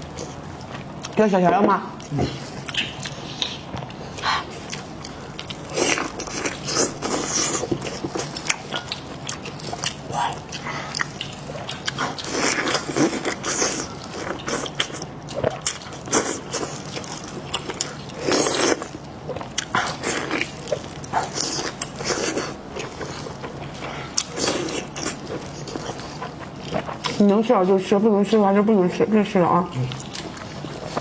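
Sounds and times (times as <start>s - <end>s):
person chewing food: 0.0s - 1.2s, 1.9s - 27.3s, 29.8s - 31.0s.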